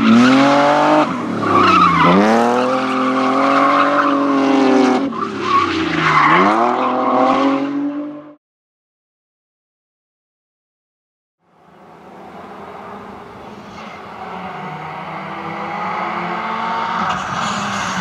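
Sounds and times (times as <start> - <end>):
car engine at high revs: 0.0 - 8.4, 11.6 - 18.0.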